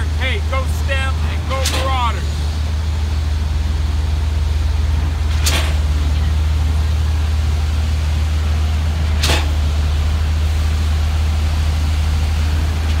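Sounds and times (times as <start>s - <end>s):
heavy machinery engine drone: 0.0s - 13.0s.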